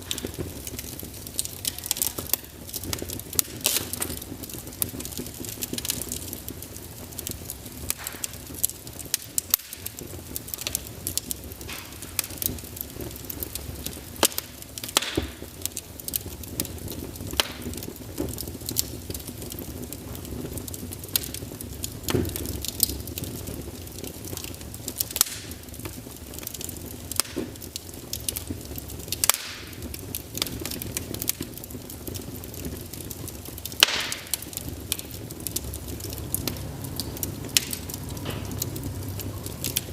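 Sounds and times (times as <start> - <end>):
burning logs crackling and popping: 0.0 - 39.9
flames rumbling: 0.0 - 39.9.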